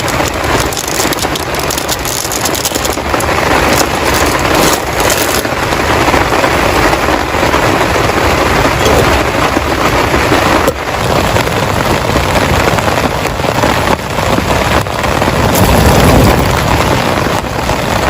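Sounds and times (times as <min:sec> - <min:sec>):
heavy rain pouring: 0:00.0 - 0:18.0
low rumble: 0:00.0 - 0:18.0.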